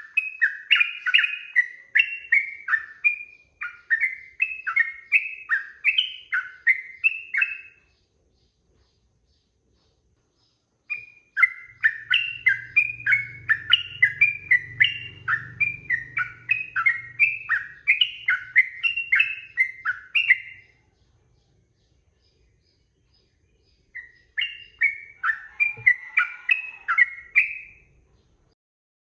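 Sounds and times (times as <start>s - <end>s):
bird singing whistled notes: 0.0s - 8.6s, 10.4s - 28.0s.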